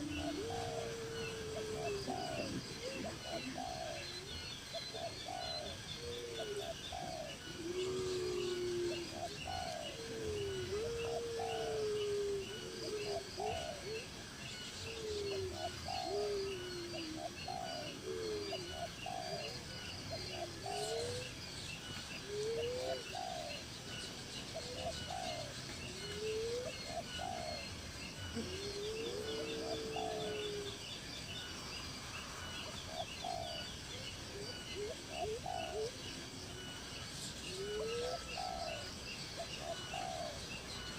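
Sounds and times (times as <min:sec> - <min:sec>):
bird cooing: 0:00.0 - 0:40.9.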